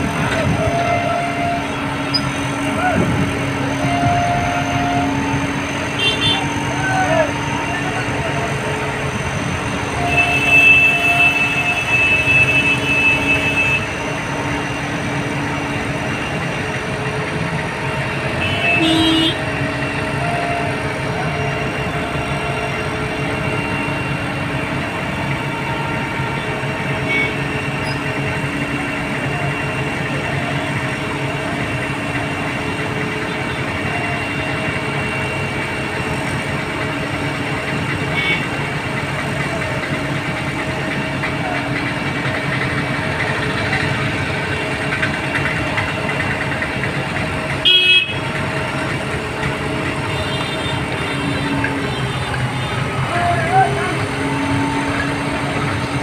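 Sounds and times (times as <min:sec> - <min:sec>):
crane diesel engine running: 0:00.0 - 0:56.0
horn blasts: 0:00.3 - 0:14.8, 0:17.9 - 0:39.7, 0:47.4 - 0:56.0.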